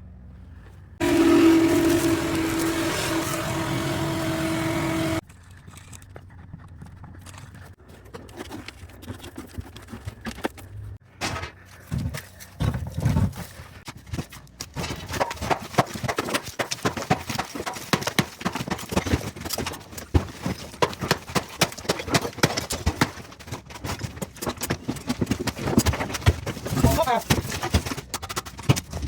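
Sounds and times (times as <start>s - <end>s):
hard objects clattering: 1.0s - 29.0s.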